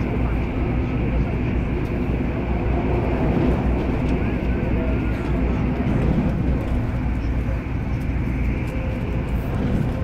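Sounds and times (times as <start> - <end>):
train running low rumble: 0.0 - 10.0.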